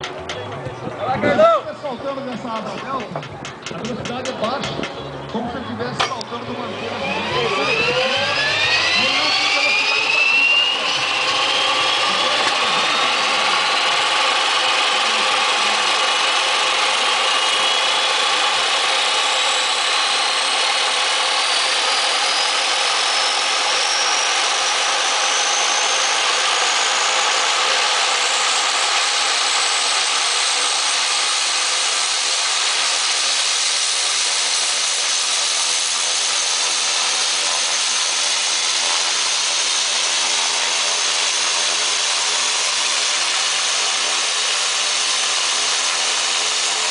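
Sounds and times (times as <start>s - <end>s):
low steady engine hum: 0.0s - 46.9s
turboprop engine whine: 0.0s - 46.9s.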